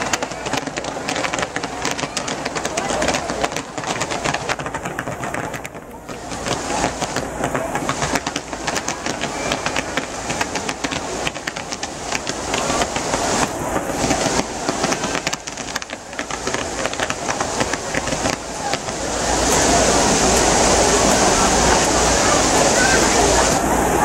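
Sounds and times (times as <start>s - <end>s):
fireworks hissing and crackling: 0.0s - 24.0s.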